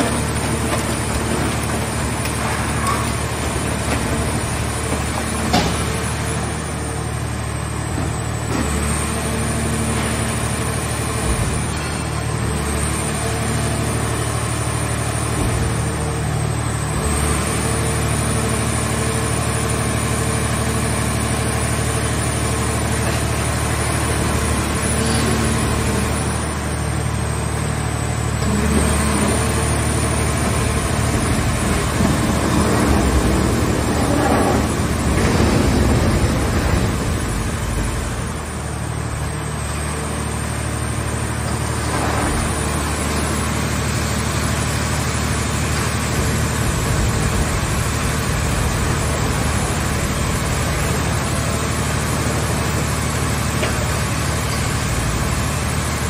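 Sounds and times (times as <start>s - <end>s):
hydraulic unit humming: 0.0s - 56.0s.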